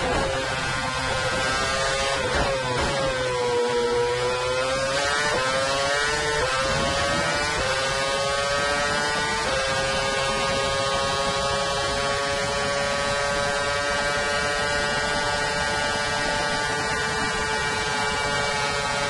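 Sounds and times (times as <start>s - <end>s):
wind rush: 0.0s - 4.4s, 5.0s - 19.0s
racing car engine at full throttle: 0.0s - 19.0s.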